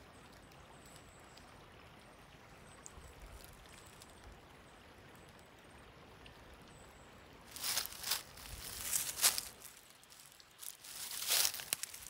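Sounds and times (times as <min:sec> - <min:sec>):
creek trickling over rocks: 0:00.0 - 0:12.0.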